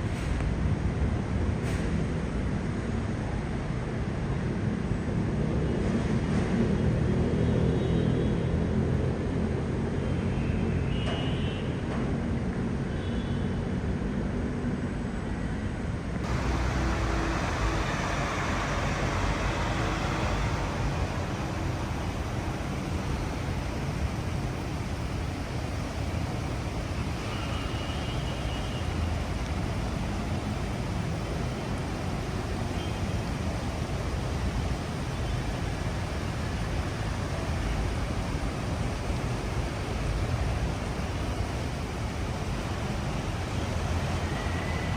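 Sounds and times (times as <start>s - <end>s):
busy road traffic passing: 0.0s - 44.9s.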